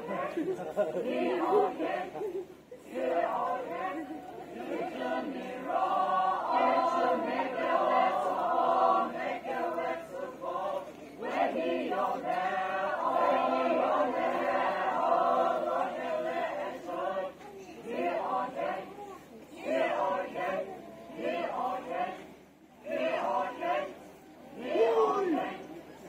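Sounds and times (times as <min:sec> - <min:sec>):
young voices singing in chorus: 0:00.0 - 0:26.0.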